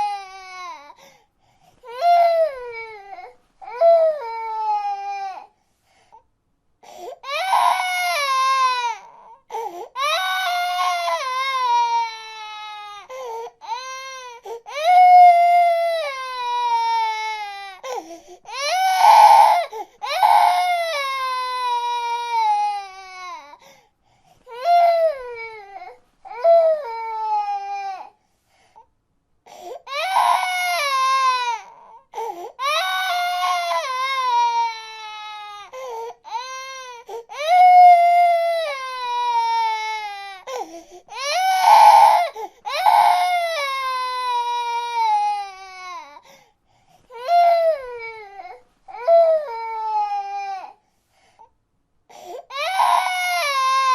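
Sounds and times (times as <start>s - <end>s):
baby crying: 0.0s - 1.0s, 1.8s - 5.5s, 7.2s - 23.6s, 24.5s - 28.2s, 29.5s - 46.2s, 47.1s - 50.8s, 52.1s - 53.9s.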